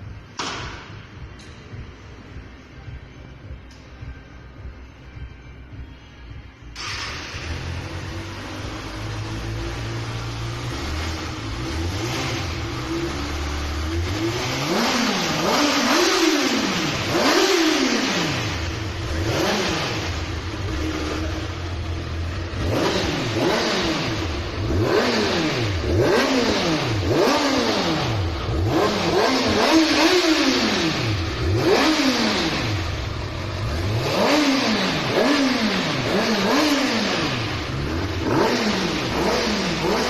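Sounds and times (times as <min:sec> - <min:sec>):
motorcycle engine revving: 0:06.8 - 0:40.0.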